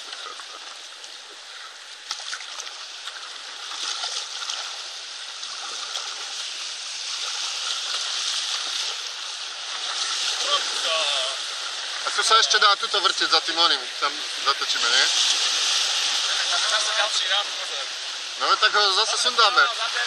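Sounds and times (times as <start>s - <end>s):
whitewater rushing and splashing: 0.0s - 20.0s.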